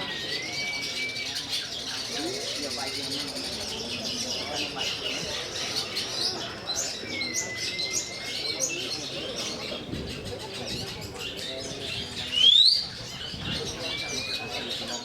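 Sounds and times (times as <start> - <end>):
murmur of voices: 0.0 - 15.0.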